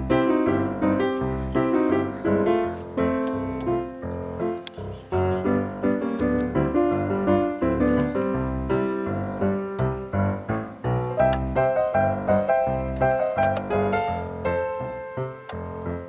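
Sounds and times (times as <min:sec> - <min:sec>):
bouncy solo piano tune: 0:00.0 - 0:16.0.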